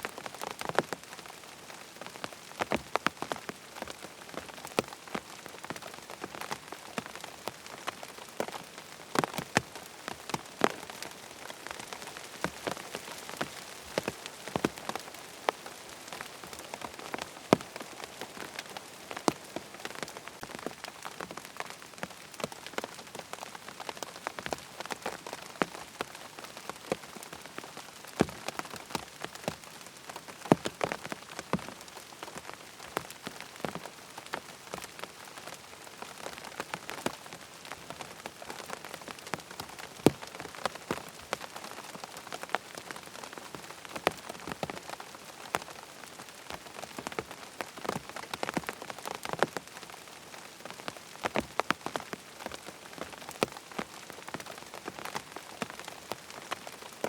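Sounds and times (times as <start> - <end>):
rain on tent fabric: 0.0 - 57.0.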